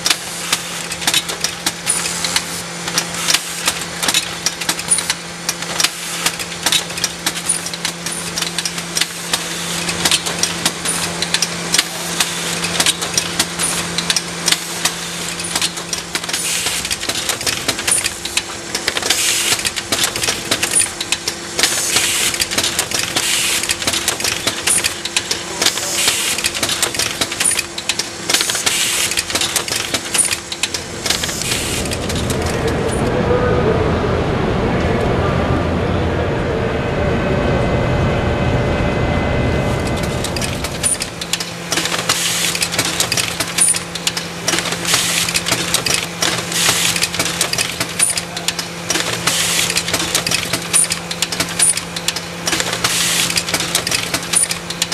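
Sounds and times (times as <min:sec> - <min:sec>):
mailing machine clattering: 0:00.0 - 0:33.1, 0:39.6 - 0:54.9
low loud machine rumble: 0:00.0 - 0:54.9
motor hum: 0:00.0 - 0:54.9.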